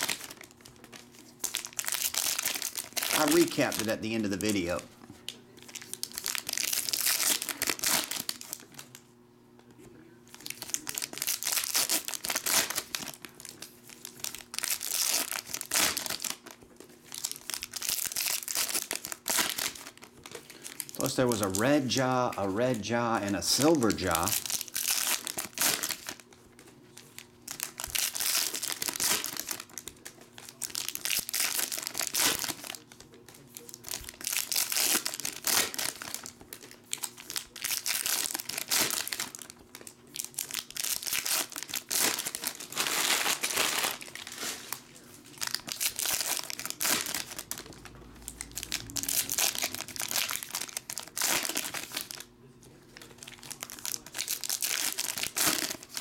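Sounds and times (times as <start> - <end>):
foil wrappers tearing and crinkling: 0.0 - 9.0, 10.3 - 56.0.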